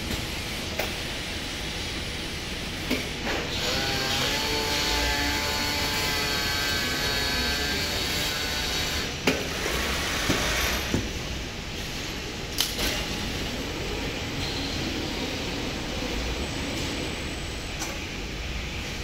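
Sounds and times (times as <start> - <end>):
machinery hum and whine: 0.0 - 19.0.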